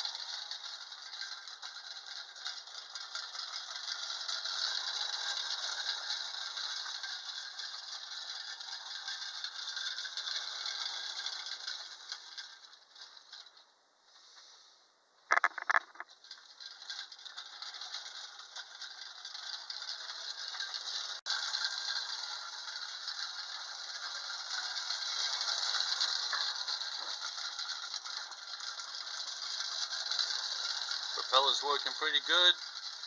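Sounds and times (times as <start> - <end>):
clockwork toy whirring rattle: 0.0 - 13.7, 15.3 - 33.0.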